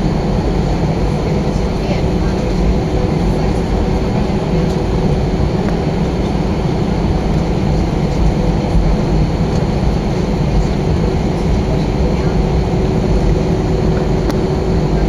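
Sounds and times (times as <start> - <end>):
aircraft cabin engine rumble: 0.0 - 15.0.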